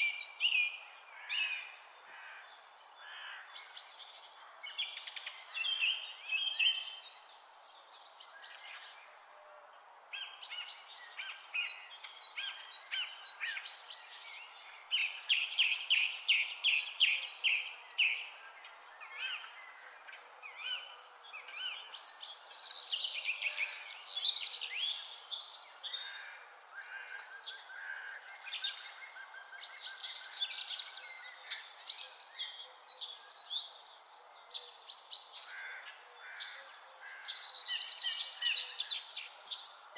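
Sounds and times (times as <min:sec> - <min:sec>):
songbirds singing: 0:00.0 - 0:09.3, 0:10.1 - 0:39.9.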